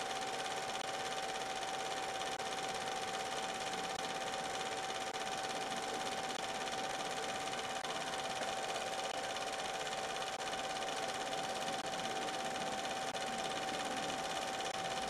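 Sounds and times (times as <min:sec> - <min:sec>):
film projector whirring and clattering: 0:00.0 - 0:15.0.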